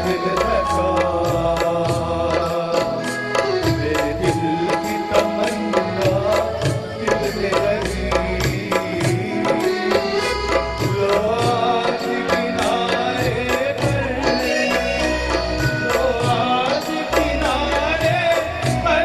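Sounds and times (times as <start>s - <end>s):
man singing into microphone: 0.0s - 19.0s
steady drum beat: 0.0s - 19.0s
tabla: 0.0s - 19.0s.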